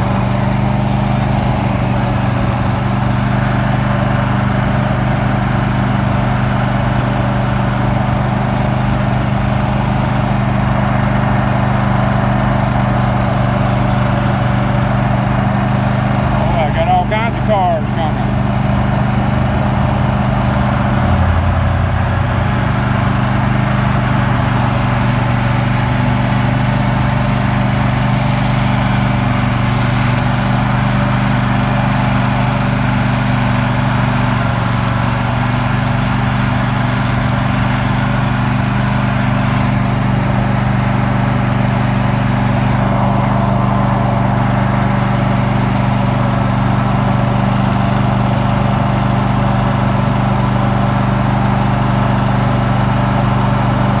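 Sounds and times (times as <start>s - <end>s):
riding lawn mower engine: 0.0s - 54.0s.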